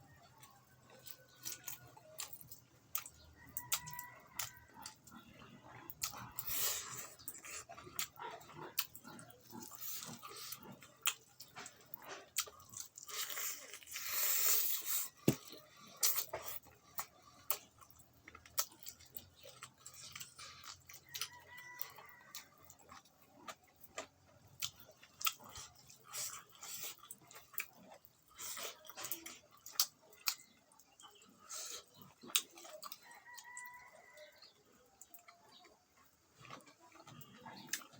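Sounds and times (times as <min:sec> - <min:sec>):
wet chewing and lip-smacking: 0:00.0 - 0:37.9.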